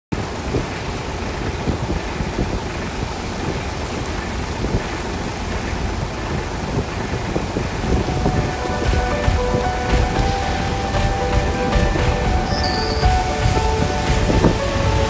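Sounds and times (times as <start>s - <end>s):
rain pouring on pavement: 0.2s - 15.0s.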